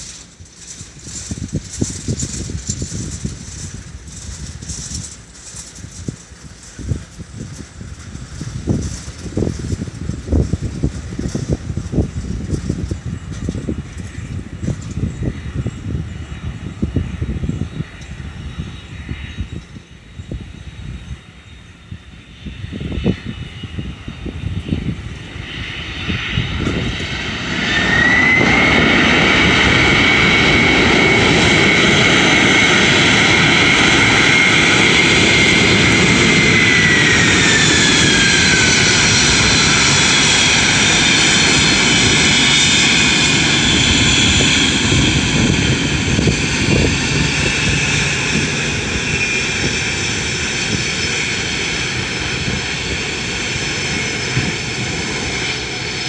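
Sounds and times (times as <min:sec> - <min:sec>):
jet engine whine: 0:00.0 - 0:56.0
jet engines roaring: 0:00.0 - 0:56.0.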